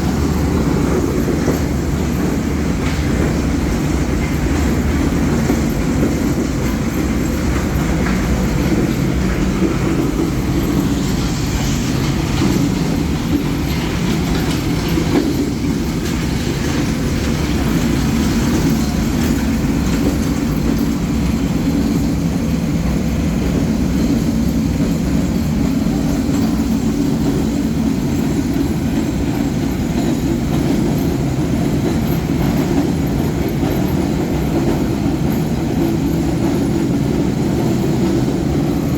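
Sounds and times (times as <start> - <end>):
roller mill running: 0.0 - 38.9.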